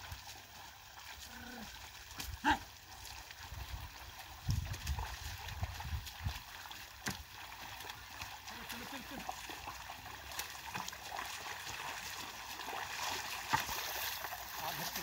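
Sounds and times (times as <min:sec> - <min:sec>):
mud and water sloshing: 0:00.0 - 0:15.0.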